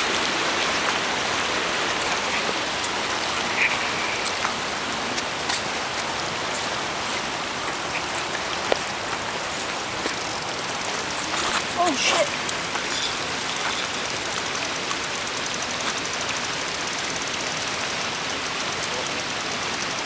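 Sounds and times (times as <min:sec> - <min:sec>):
rushing water hiss: 0:00.0 - 0:20.0.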